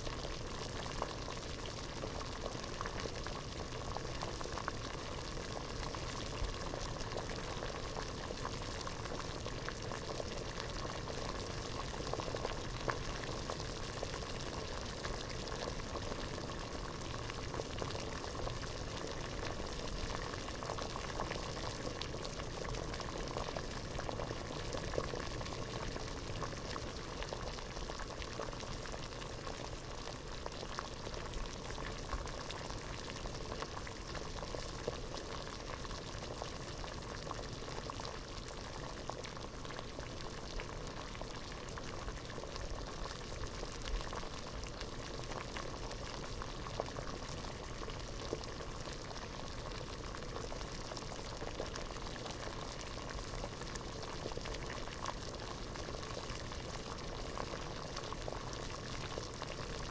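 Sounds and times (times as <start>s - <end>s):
water boiling in a pot: 0.0s - 59.9s.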